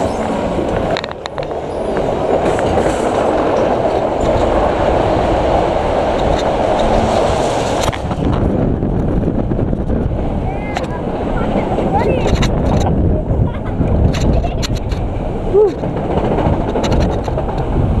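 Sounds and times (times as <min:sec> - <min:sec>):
coaster car rumbling on track: 0:00.0 - 0:18.0.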